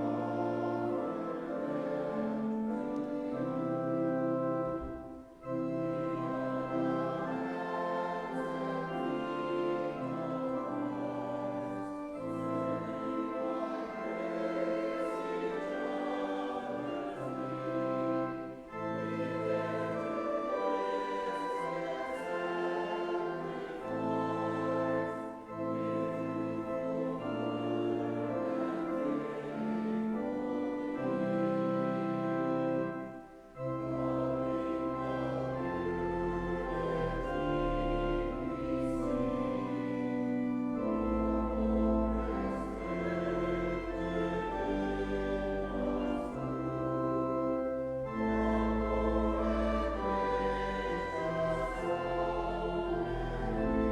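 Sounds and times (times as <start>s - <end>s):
congregation singing a hymn: 0.0s - 53.9s
organ accompaniment: 0.0s - 53.9s.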